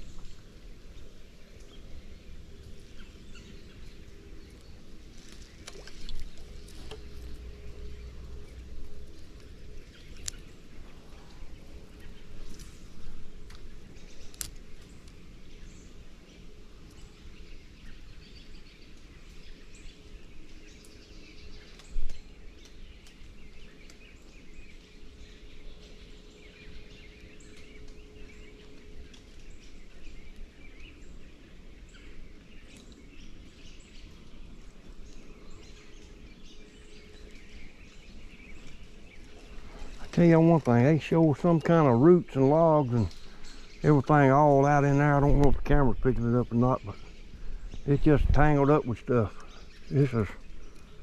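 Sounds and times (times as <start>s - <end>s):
drops ticking on leaves: 0.0s - 51.0s
rain falling in woodland: 0.0s - 51.0s.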